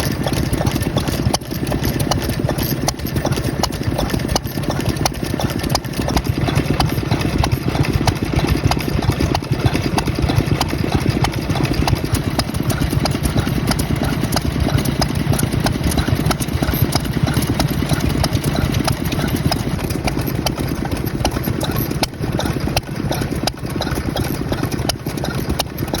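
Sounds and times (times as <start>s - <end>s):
stationary engine running: 0.0s - 26.0s.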